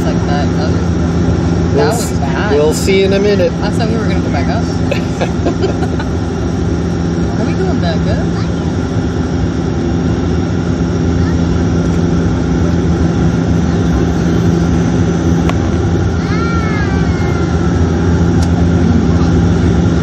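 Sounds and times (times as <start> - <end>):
airliner cabin engine noise: 0.0 - 20.0
low hum: 0.0 - 20.0.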